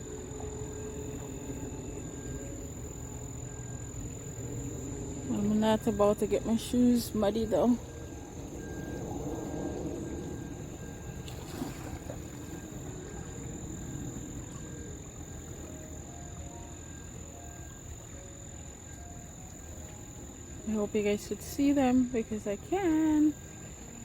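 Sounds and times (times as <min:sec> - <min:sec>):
crickets trilling: 0:00.0 - 0:24.0
low rumbling background noise: 0:00.0 - 0:24.0.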